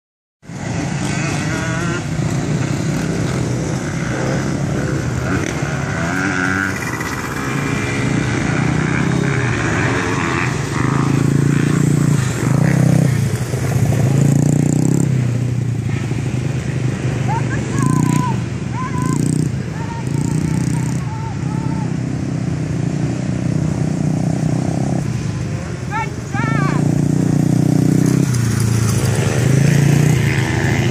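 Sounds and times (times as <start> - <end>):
small dirt bike engines revving: 0.5 - 30.9.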